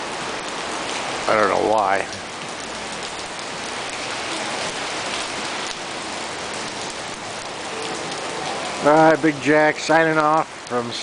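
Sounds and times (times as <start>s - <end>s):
heavy rain on paving: 0.0s - 11.0s.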